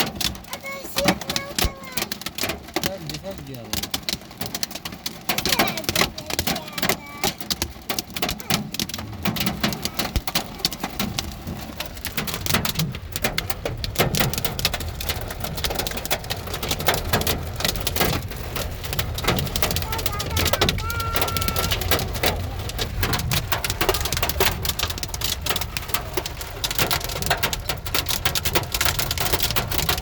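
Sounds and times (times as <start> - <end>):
heavy rain and hail pelting: 0.0 - 30.0.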